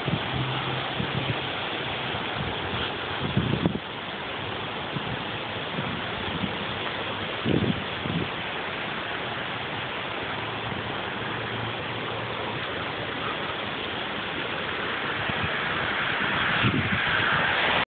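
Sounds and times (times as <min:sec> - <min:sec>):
fast-flowing water rushing: 0:00.0 - 0:17.9.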